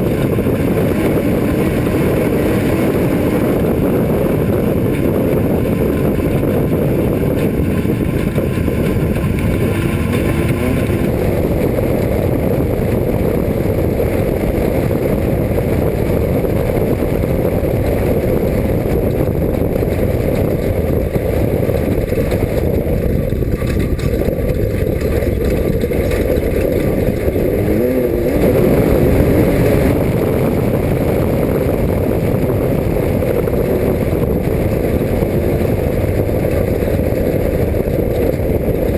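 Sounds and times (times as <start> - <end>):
race car engine rumble: 0.0 - 38.9
vehicle running over rough ground: 0.0 - 38.9.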